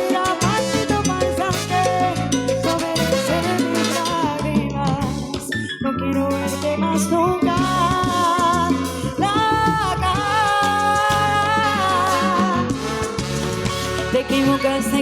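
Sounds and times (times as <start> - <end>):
salsa band playing live: 0.0 - 15.0.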